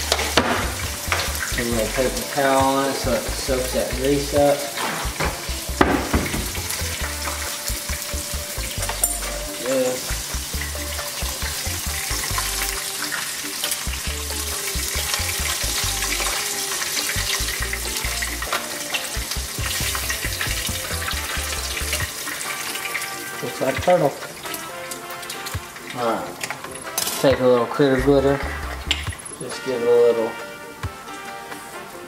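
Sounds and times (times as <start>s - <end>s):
meat frying in hot grease: 0.0s - 32.0s.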